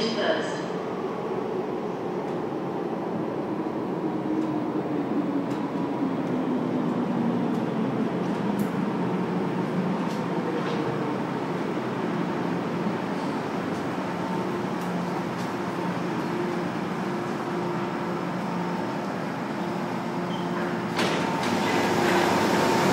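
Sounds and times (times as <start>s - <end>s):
train rumble with falling tone: 0.0s - 22.9s.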